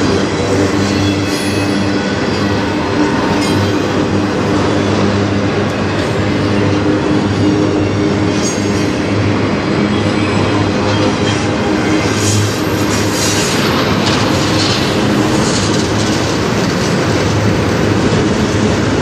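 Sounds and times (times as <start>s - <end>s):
steel wheels clattering on rails: 0.0s - 19.0s.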